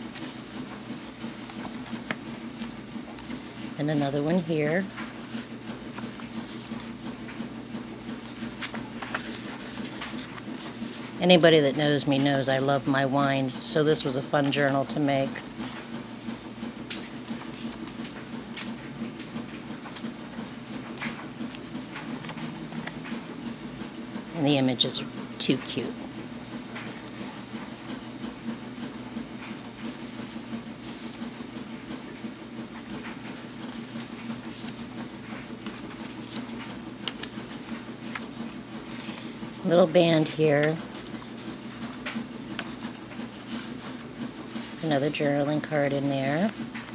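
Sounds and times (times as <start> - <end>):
paper pages turning: 0.0 - 12.4, 16.8 - 23.2, 26.7 - 46.9
steady low hum: 0.0 - 46.9.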